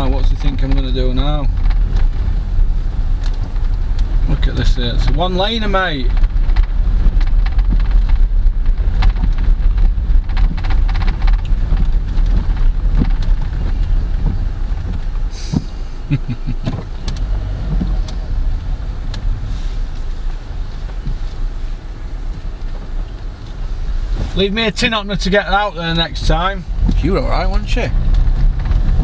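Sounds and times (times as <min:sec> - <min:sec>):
car driving rumble: 0:00.0 - 0:29.0.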